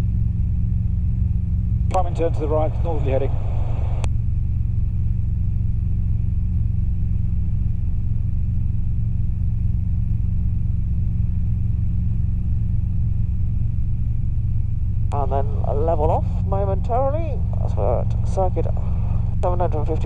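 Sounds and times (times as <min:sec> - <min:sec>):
helicopter engine and rotors drone: 0:00.0 - 0:20.0.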